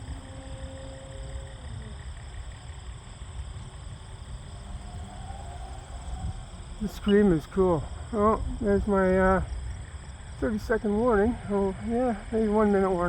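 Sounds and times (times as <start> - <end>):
low rumble: 0.0 - 12.5
model plane motor whining: 0.0 - 13.0.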